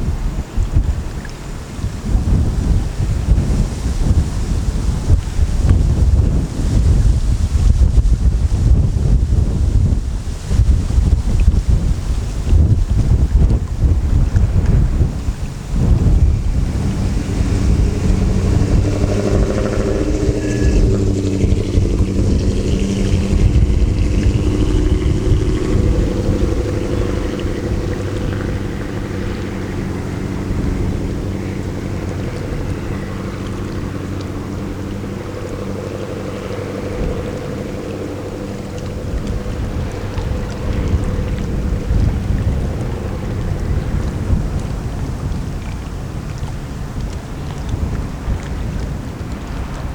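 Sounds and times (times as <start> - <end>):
ship engine drone: 0.0 - 49.9
wind rumble on microphone: 0.0 - 49.9.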